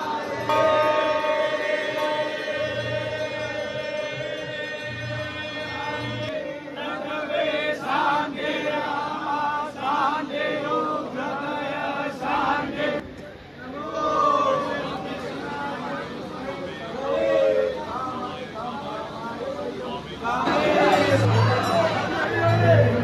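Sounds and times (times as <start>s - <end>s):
people singing a chant in chorus: 0.0s - 13.0s, 13.6s - 23.0s.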